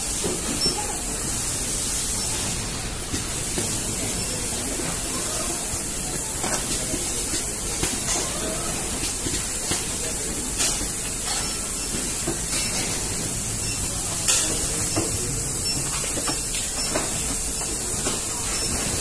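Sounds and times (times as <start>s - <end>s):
machinery hiss and hum: 0.0s - 19.0s.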